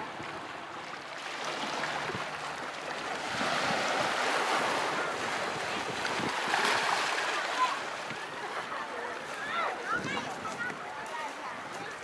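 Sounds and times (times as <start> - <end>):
waves breaking over rocks: 0.0 - 10.8.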